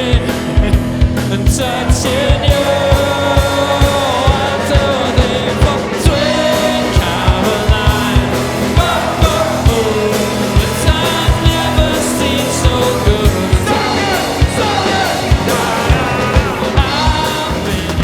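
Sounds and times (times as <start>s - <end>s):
held sung notes: 0.0s - 18.0s
live band playing pop-rock: 0.0s - 18.0s.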